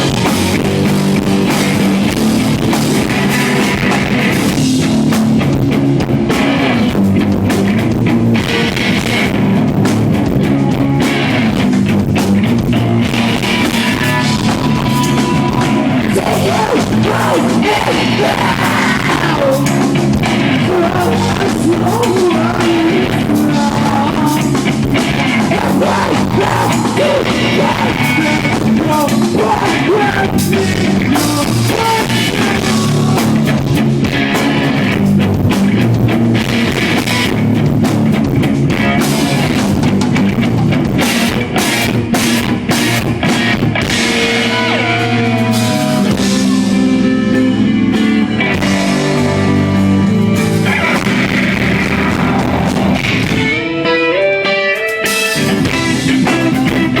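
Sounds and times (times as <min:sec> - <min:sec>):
drum kit: 0:00.0 - 0:53.8, 0:54.7 - 0:57.0
electric guitars: 0:00.0 - 0:57.0
live rock band playing: 0:00.0 - 0:57.0.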